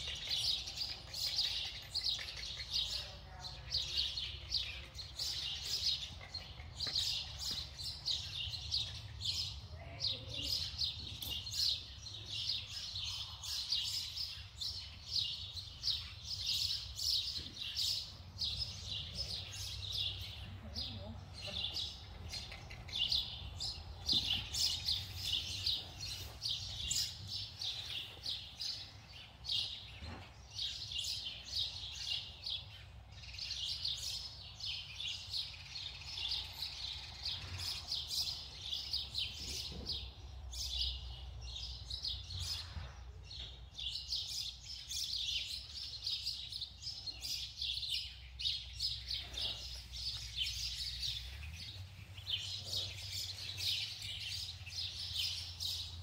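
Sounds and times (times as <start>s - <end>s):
small birds chirping rapidly: 0.0s - 56.0s.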